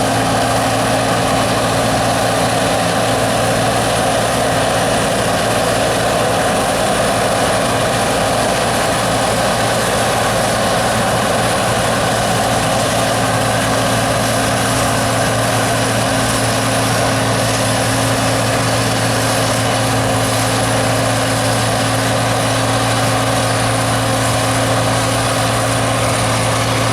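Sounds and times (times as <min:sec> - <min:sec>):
combine harvester engine drone: 0:00.0 - 0:26.9
threshing machinery whirring: 0:00.0 - 0:26.9.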